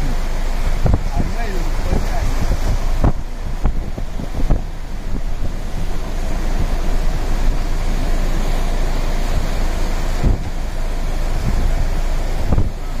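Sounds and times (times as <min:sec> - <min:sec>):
deep rumble: 0:00.0 - 0:13.0
surf crashing against sea wall: 0:00.0 - 0:13.0
wind buffeting microphone: 0:00.0 - 0:13.0.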